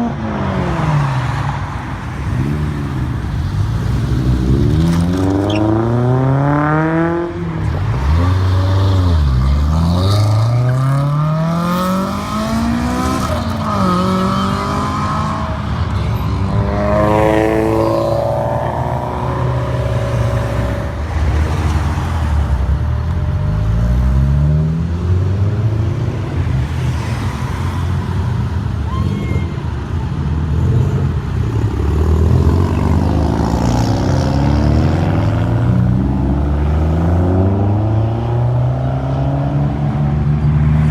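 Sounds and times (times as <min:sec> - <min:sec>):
sports car engines revving: 0:00.0 - 0:28.8, 0:30.2 - 0:40.9.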